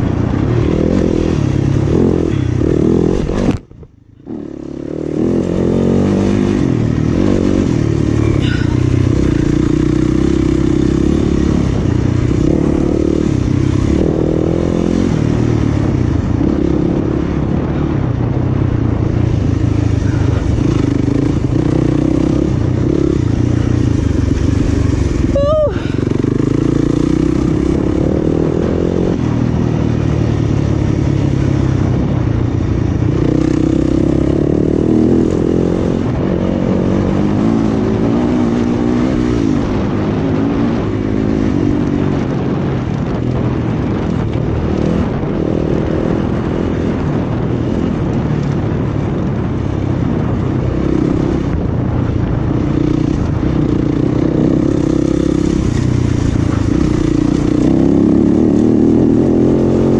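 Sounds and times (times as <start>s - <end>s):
dirt bike engine revving: 0.0s - 3.6s, 4.2s - 17.8s, 19.3s - 32.1s, 33.1s - 47.4s, 52.5s - 59.9s.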